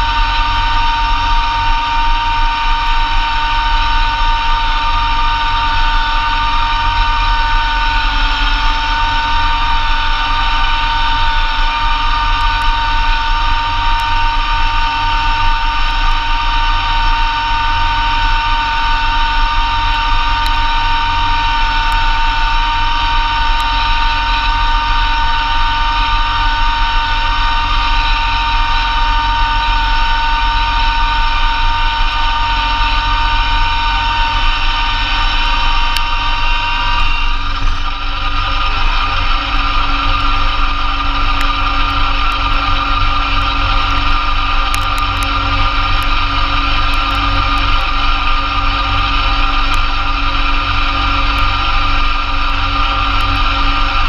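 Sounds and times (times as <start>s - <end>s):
snowblower high whine: 0.0s - 54.0s
tractor diesel engine rumble: 0.0s - 54.0s.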